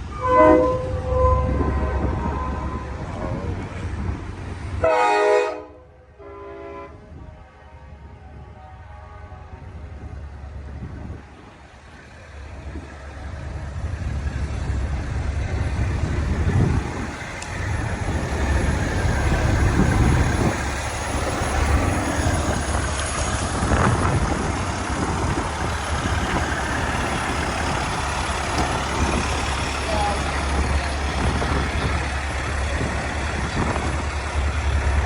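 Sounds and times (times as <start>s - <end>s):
diesel truck engine rumbling: 0.0s - 4.8s, 8.4s - 35.0s.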